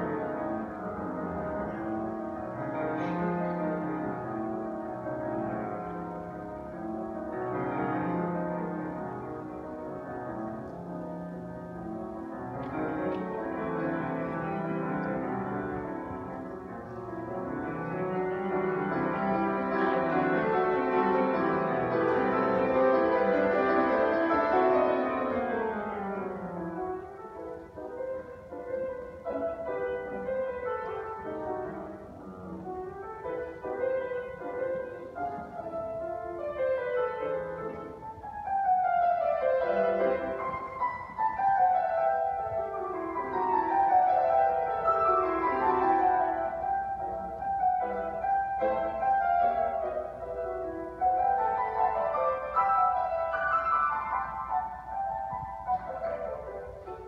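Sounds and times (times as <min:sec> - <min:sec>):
grand piano playing: 0:00.0 - 0:57.0.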